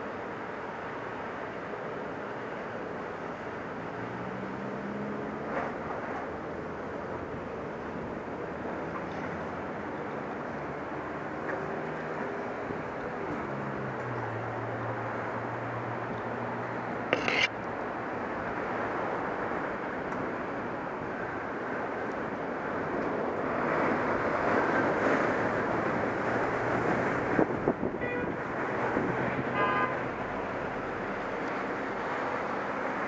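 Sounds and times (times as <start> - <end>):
distant street traffic rumble: 0.0 - 33.0.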